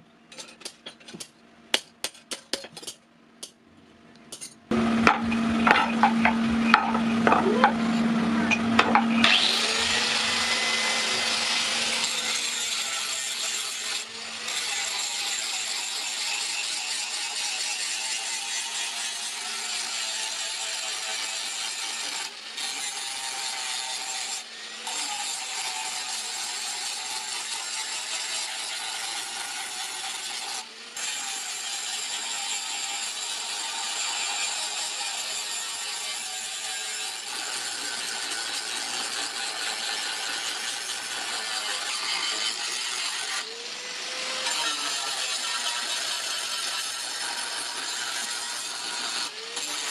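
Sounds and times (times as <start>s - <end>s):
power grinder rasping on steel: 4.7s - 49.9s.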